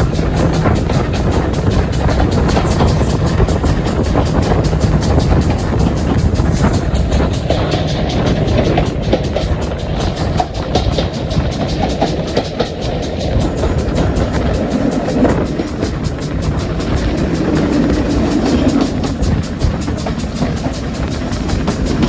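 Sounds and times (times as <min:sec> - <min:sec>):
steam train passing: 0:00.0 - 0:22.0.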